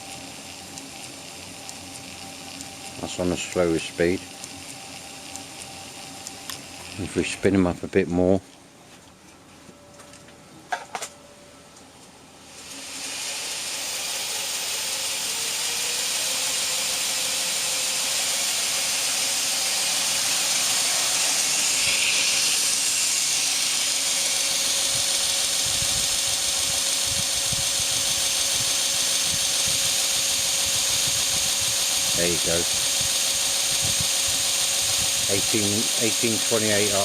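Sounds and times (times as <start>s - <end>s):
electric motor whine: 0.0s - 8.0s, 12.4s - 37.0s
grinder belt hissing: 0.0s - 8.4s, 12.4s - 37.0s.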